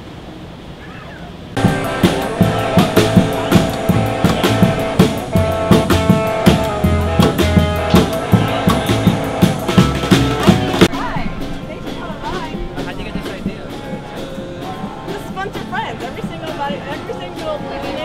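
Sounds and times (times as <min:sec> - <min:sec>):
quiet street noise: 0:00.0 - 0:18.0
live street band playing: 0:01.6 - 0:18.0.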